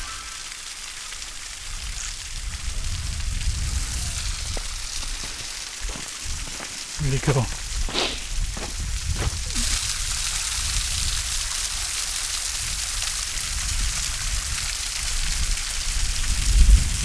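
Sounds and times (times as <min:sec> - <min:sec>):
water splashing down waterfall: 0:00.0 - 0:17.0.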